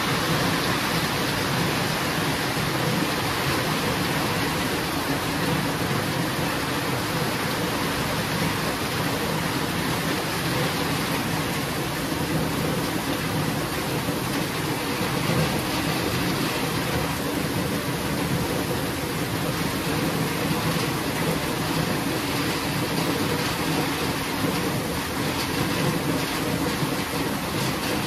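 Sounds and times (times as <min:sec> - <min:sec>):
heavy rainfall: 0:00.0 - 0:28.0.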